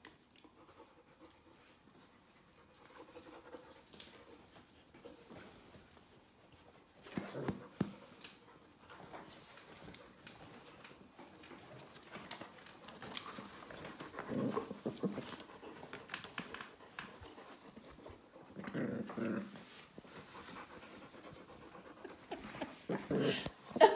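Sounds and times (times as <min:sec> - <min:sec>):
dogs scuffling and rustling: 0:00.1 - 0:23.9.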